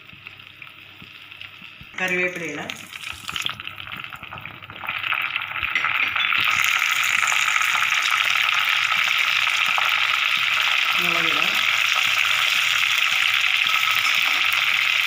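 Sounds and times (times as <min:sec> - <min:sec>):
leaves sizzling in hot oil: 0:00.0 - 0:15.0.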